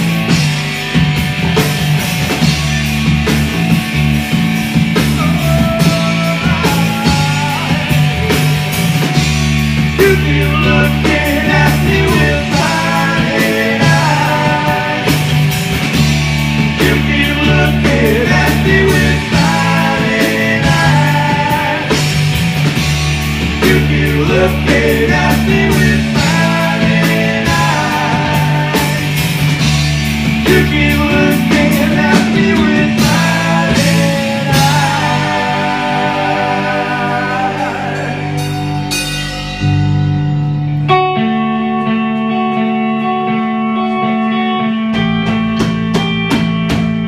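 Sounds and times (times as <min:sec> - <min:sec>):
lead guitar bending notes: 0:00.0 - 0:47.0
rock band playing live: 0:00.0 - 0:47.0.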